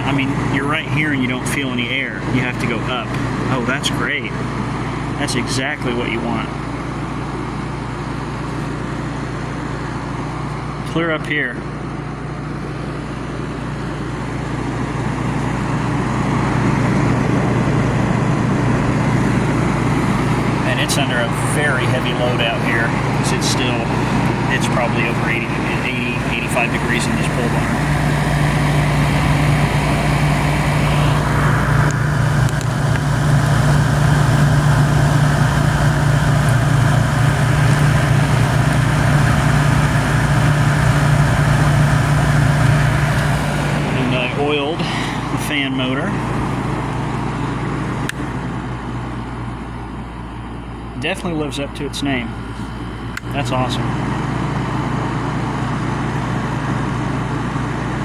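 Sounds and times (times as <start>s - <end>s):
air conditioner compressor hum: 0.0s - 58.0s
air conditioner fan rushing: 0.0s - 58.0s.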